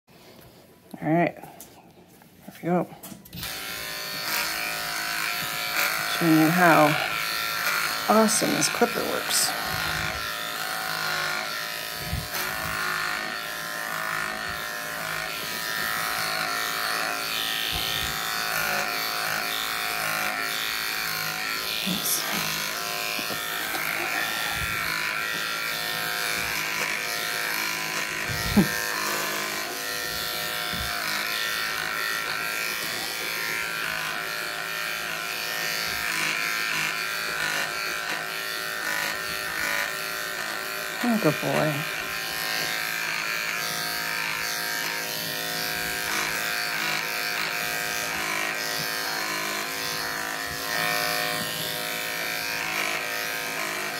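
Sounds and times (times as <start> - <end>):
cordless clipper buzzing: 3.0 - 53.9.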